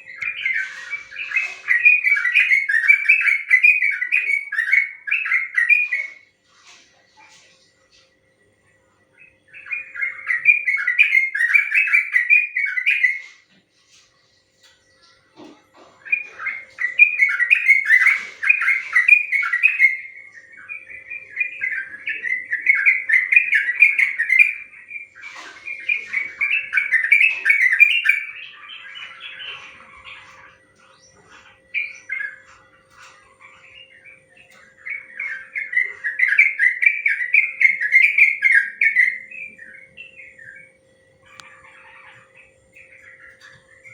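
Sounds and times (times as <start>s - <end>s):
bird singing warbling phrases: 0.0s - 43.9s.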